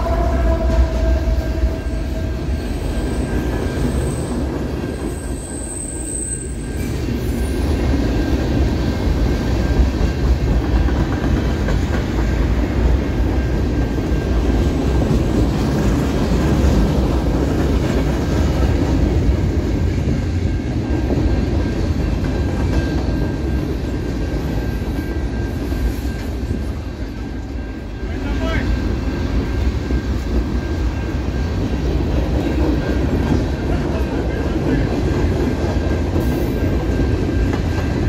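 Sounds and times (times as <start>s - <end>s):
freight train cars rumbling: 0.0s - 38.0s
high whine from train wheels: 0.0s - 38.0s.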